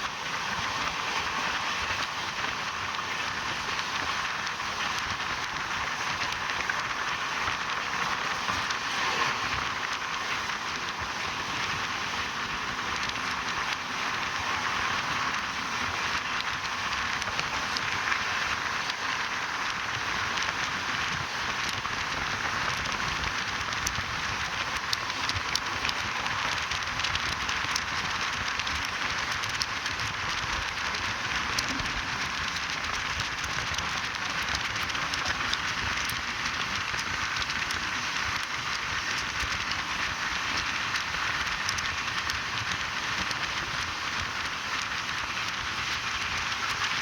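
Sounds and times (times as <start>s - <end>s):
fine crackling clicks: 0.0s - 47.0s.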